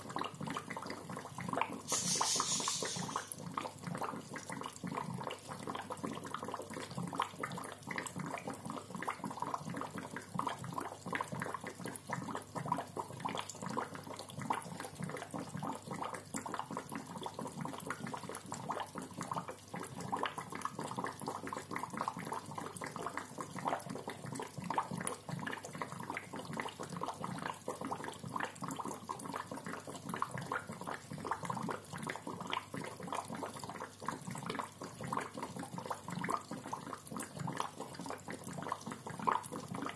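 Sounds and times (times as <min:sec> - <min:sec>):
aquarium air bubbler gurgling: 0:00.0 - 0:39.9.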